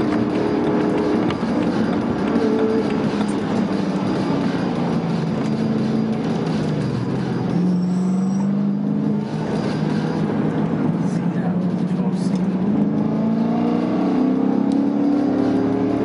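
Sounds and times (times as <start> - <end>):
car engine at speed: 0.0 - 16.0
tyre and road noise: 0.0 - 16.0.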